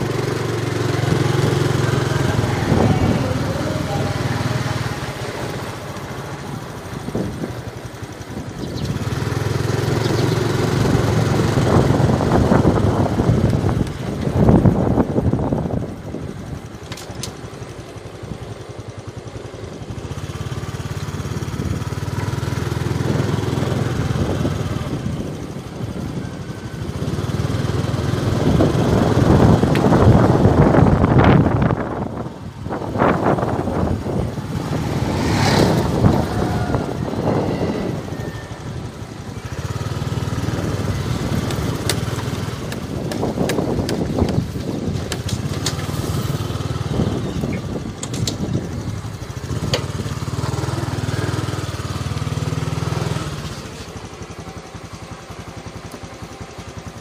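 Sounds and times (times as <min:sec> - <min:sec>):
wind noise on microphone: 0:00.0 - 0:16.9, 0:21.2 - 0:53.7
small motorbike engine running: 0:00.0 - 0:57.0.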